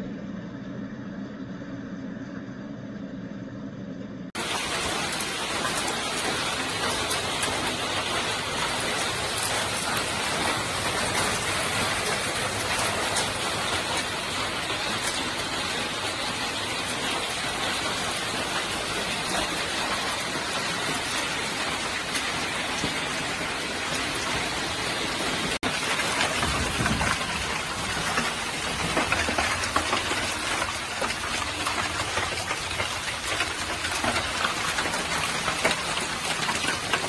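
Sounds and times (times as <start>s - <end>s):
hailstones ticking on surfaces: 4.4s - 37.0s
heavy rain hiss: 4.4s - 37.0s.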